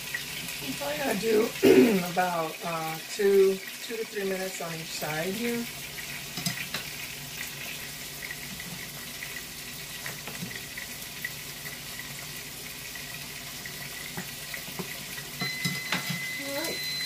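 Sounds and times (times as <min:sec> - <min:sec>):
fish frying in oil: 0:00.0 - 0:17.0
water boiling in saucepan: 0:00.0 - 0:17.0.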